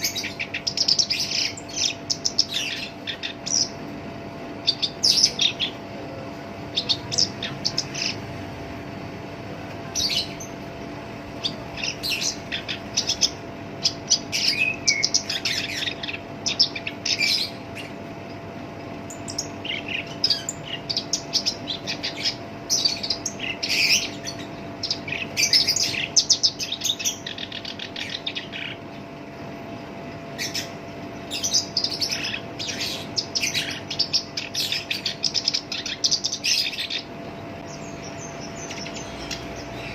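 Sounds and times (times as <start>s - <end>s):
reed warbler singing harsh song: 0.0s - 6.0s, 6.6s - 8.3s, 11.3s - 18.0s, 19.0s - 29.0s, 30.3s - 39.9s.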